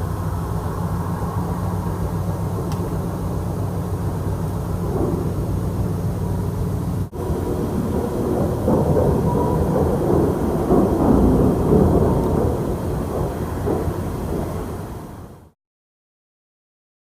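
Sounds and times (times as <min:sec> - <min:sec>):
deep rolling rumble: 0:00.0 - 0:15.6.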